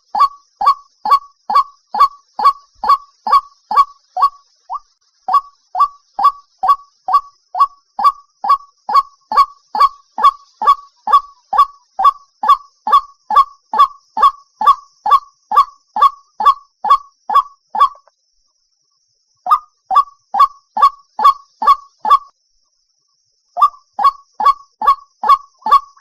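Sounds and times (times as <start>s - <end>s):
waterhen calling: 0.0s - 18.1s, 19.5s - 22.2s, 23.6s - 26.0s.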